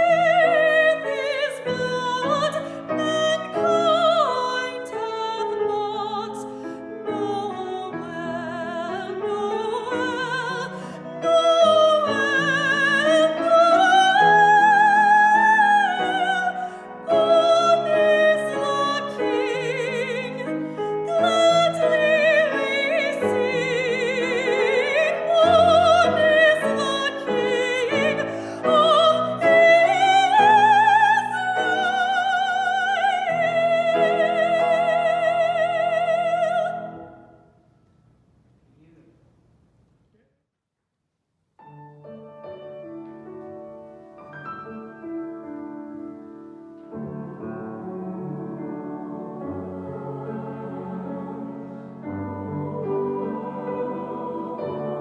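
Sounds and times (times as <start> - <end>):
piano accompaniment: 0.0 - 37.4, 41.6 - 55.0
soprano singing: 0.0 - 37.5, 42.4 - 55.0.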